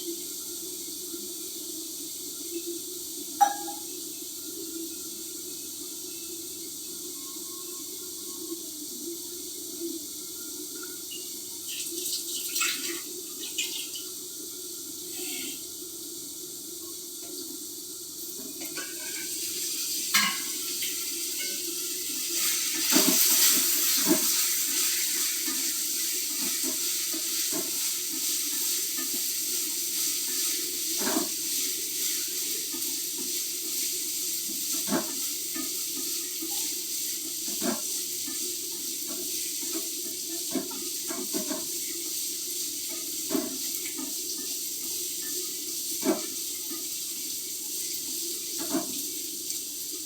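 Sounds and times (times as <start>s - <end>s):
water running from tap: 0.0s - 50.0s.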